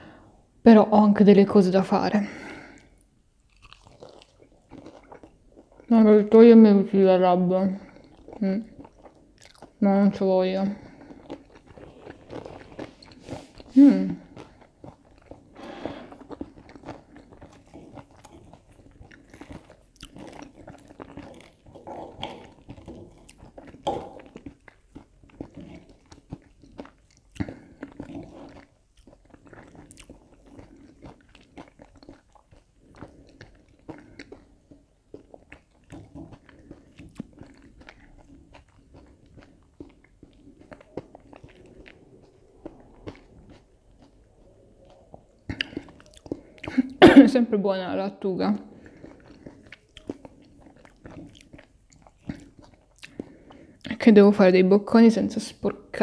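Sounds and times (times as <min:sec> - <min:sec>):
person chewing and crunching food: 0:02.4 - 0:06.5, 0:07.5 - 0:47.0, 0:48.3 - 0:54.0
wet mouth sounds: 0:07.8 - 0:47.2, 0:48.4 - 0:54.0.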